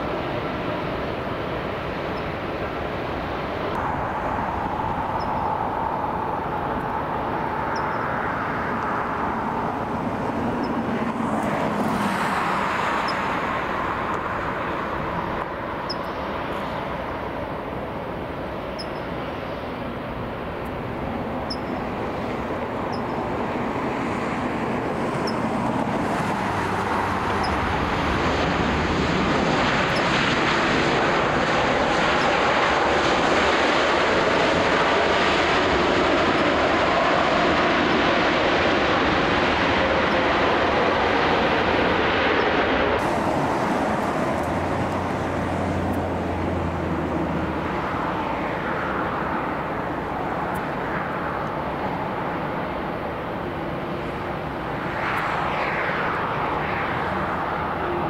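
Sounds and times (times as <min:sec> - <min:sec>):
jet engine rushing: 0:00.0 - 0:58.0.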